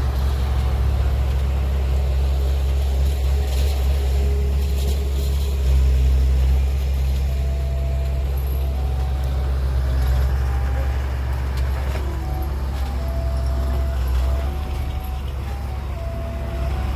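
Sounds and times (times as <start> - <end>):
heavy diesel engine rumbling: 0.0 - 16.9.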